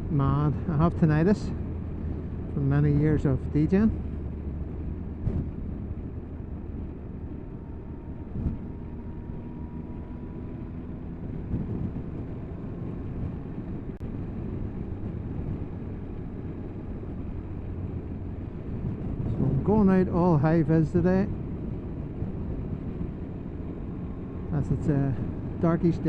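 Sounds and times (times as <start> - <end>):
motorcycle engine drone: 0.0 - 26.0
wind rushing over microphone: 0.0 - 26.0.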